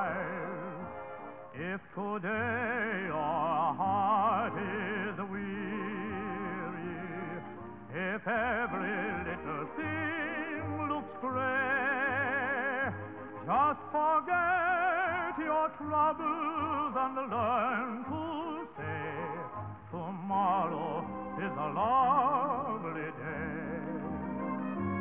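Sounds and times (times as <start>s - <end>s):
singing voice with strong vibrato: 0.0s - 24.2s
instrumental accompaniment: 4.0s - 25.0s.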